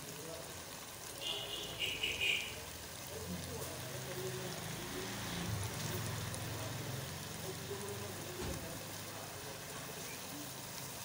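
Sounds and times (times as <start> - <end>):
curry sizzling in pot: 0.0 - 11.0.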